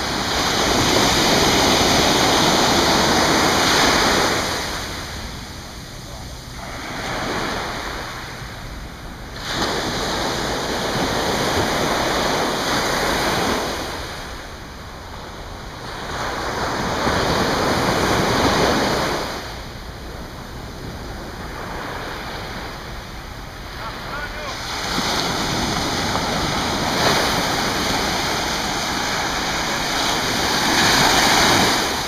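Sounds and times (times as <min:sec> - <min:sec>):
ocean surf washing onto beach: 0:00.0 - 0:32.0.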